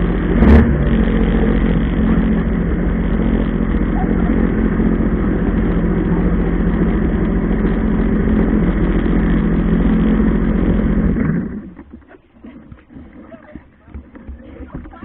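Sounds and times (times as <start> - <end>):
jet ski engine droning: 0.0 - 15.0.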